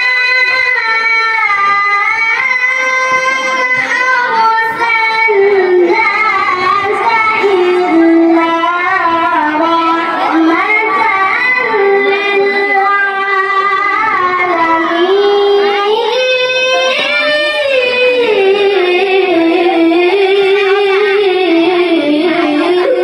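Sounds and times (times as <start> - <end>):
boy reciting melodically: 0.0 - 23.0.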